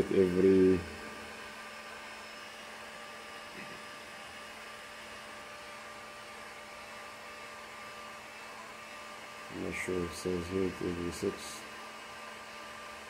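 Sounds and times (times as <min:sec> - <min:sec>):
electrical hum: 0:00.0 - 0:13.0
heat gun blowing whir: 0:00.0 - 0:13.0.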